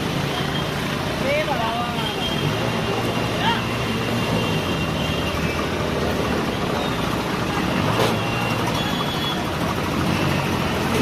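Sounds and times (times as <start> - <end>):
truck and car engines running: 0.0 - 11.0.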